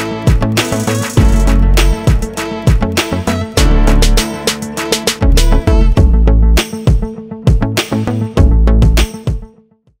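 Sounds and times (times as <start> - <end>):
music with heavy bass and drums: 0.0 - 9.5.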